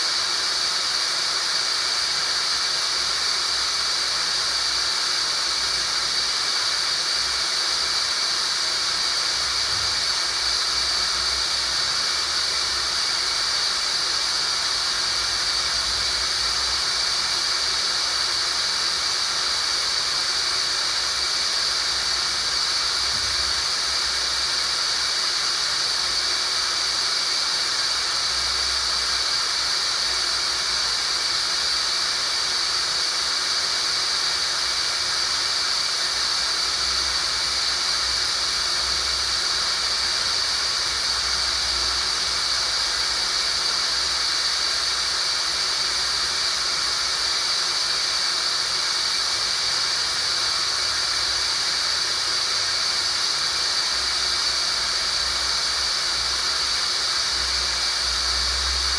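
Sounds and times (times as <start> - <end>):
steady hiss with high-pitched band: 0.0 - 58.9.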